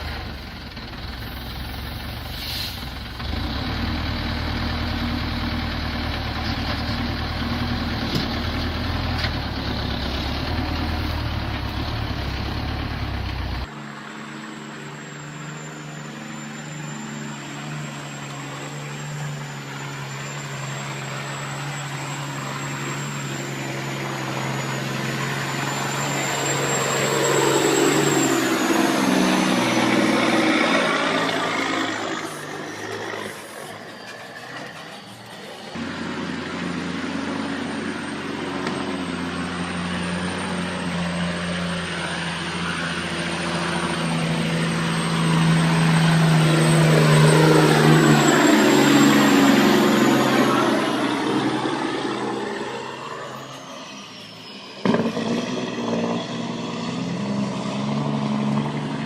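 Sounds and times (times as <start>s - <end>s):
heavy vehicle engine running: 0.0s - 59.0s.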